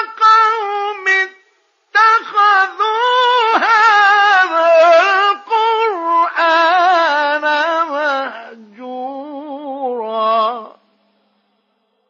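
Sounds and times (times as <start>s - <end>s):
man chanting melismatically: 0.0s - 10.8s.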